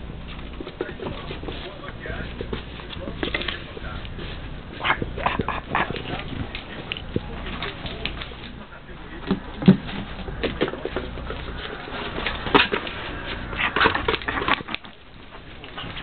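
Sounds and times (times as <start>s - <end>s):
ferrets pattering and scratching: 0.0s - 16.0s.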